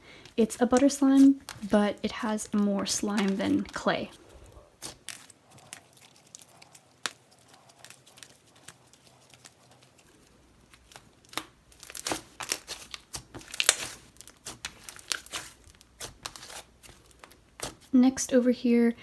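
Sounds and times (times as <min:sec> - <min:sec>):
slime squished by hand: 0:02.5 - 0:17.9.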